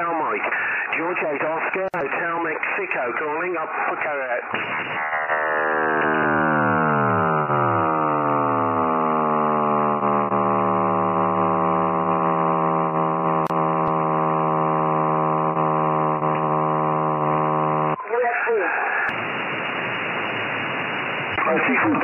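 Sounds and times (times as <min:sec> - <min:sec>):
buzzy radio signal tone: 0:00.0 - 0:22.0.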